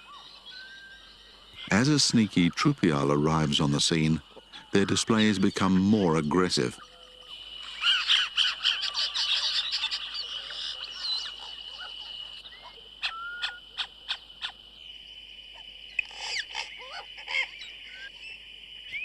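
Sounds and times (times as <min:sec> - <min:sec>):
birds chattering and whistling: 0:00.0 - 0:19.0.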